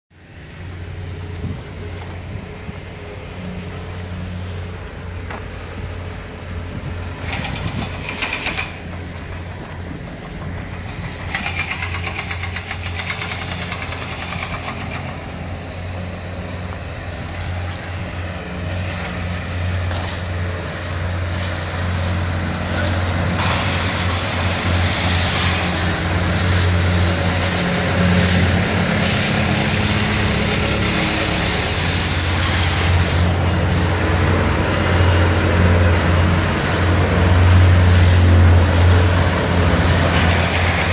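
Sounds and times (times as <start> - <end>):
engine droning: 0.1 - 40.9
high-pitched mechanical noise: 6.8 - 40.9.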